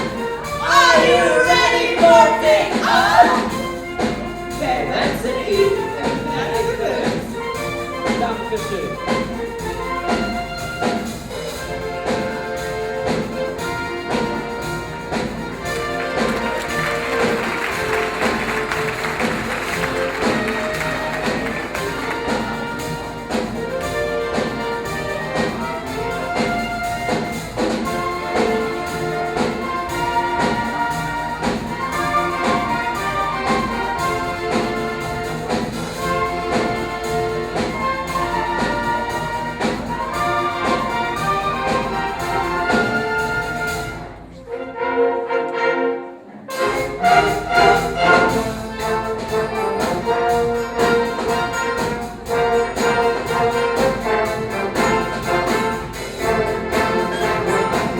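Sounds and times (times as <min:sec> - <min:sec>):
orchestral music with brass: 0:00.0 - 0:57.9.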